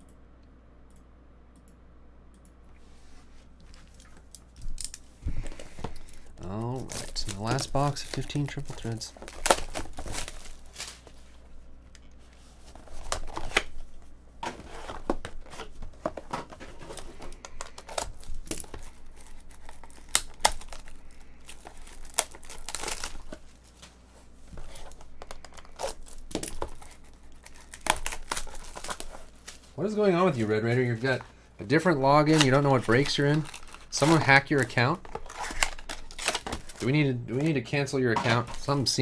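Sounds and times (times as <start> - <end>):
plastic wrap crinkling and tearing: 4.2 - 11.2, 12.7 - 23.9, 24.5 - 39.0.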